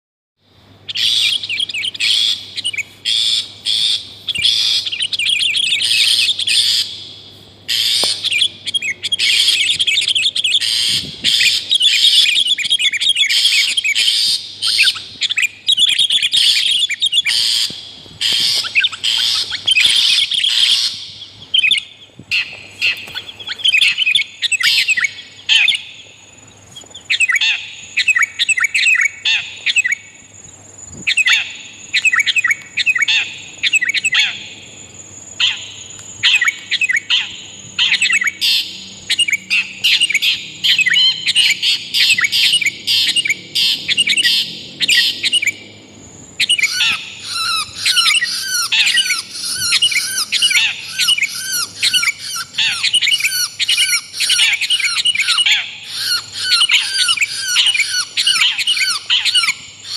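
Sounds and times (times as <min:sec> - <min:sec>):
birds chattering and chirping: 0:00.6 - 0:59.9.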